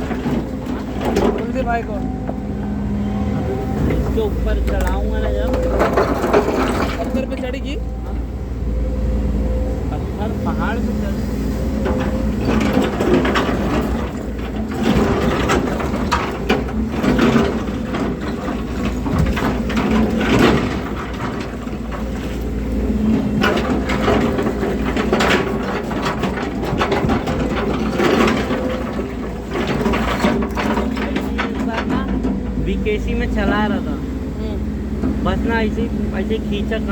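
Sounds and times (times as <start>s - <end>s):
tracks crunching and clanking on rock: 0.0s - 2.5s, 3.4s - 8.3s, 11.7s - 33.9s
excavator diesel engine running: 0.0s - 36.9s.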